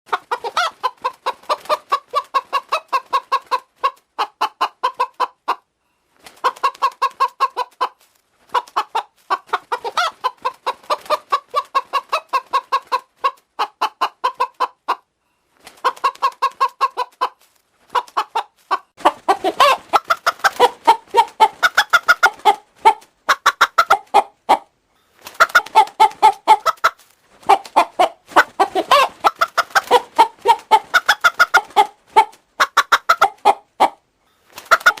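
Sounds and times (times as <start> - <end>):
hen clucking: 0.1 - 5.7, 6.4 - 15.1, 15.8 - 35.0
pitch-shifted hen clucking: 0.1 - 35.0.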